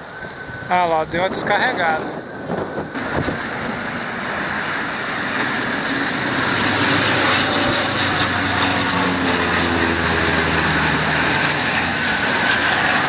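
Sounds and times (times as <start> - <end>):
plane engines: 0.0 - 13.0
wind on microphone: 0.0 - 13.0.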